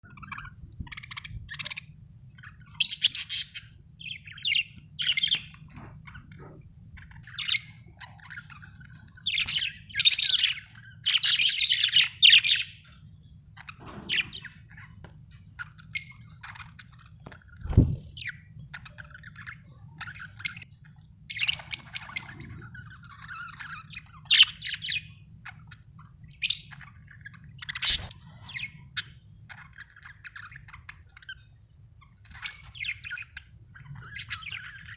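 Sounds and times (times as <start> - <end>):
faint low hum: 0.0 - 34.9
budgerigars chirping and chattering: 0.1 - 34.9.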